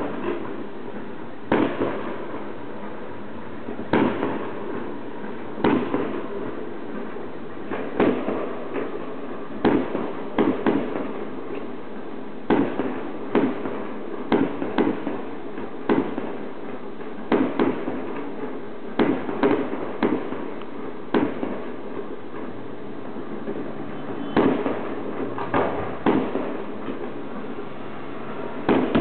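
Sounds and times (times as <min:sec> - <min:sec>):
fireworks bursting: 0:00.0 - 0:29.0
steady background hiss: 0:00.0 - 0:29.0.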